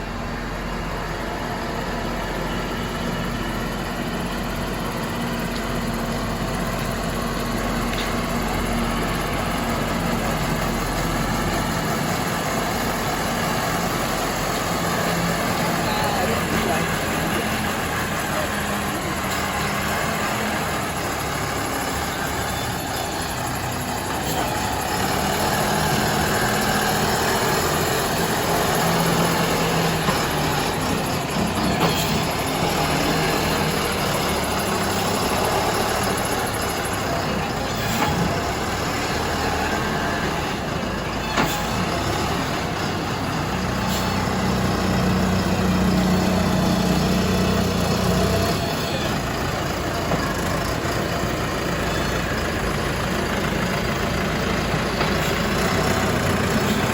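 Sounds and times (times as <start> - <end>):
diesel engine of loader: 0.0 - 56.9.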